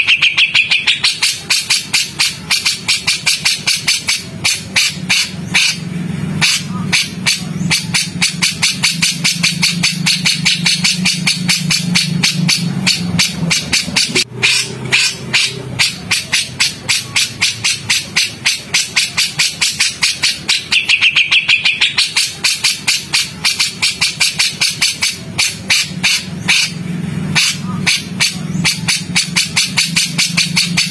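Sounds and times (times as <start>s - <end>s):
songbird harsh rapid call: 0.0s - 30.9s.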